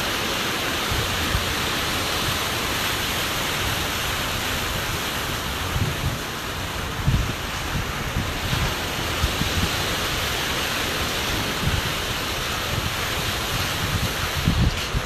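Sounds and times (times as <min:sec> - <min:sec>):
wind buffeting microphone: 0:00.7 - 0:15.0.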